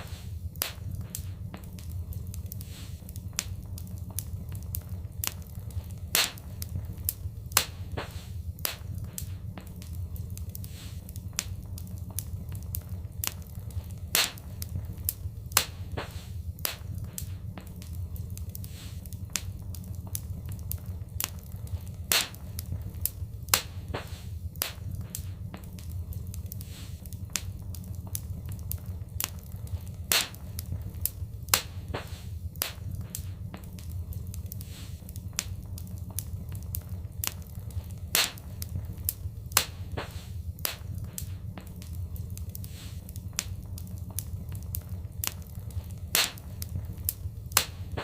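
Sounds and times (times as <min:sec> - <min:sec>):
sharp pops of fire: 0:00.0 - 0:48.0
wood fire crackling: 0:00.0 - 0:48.0.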